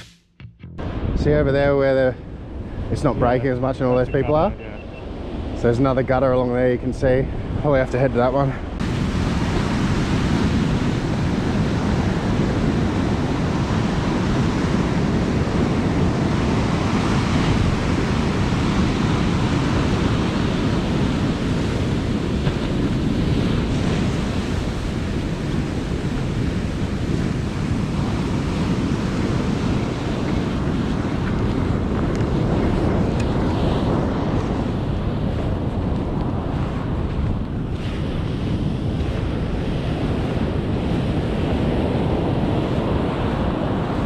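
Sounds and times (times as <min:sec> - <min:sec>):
wind rumbling on microphone: 0:00.8 - 0:44.0
ocean surf breaking on beach: 0:01.0 - 0:44.0.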